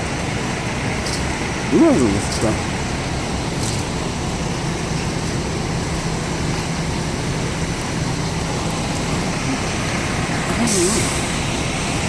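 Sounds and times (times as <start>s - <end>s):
city street traffic hum: 0.0s - 12.0s.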